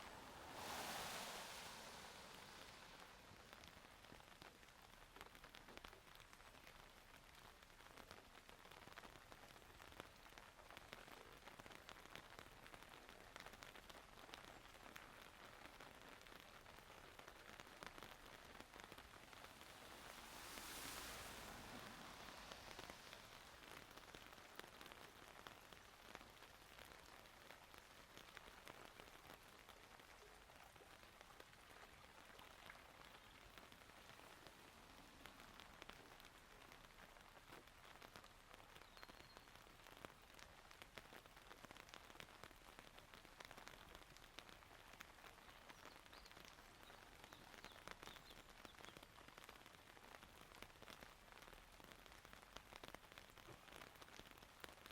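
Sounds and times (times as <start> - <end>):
rain falling: 0.0 - 54.9
raindrops ticking on surfaces: 0.0 - 54.9.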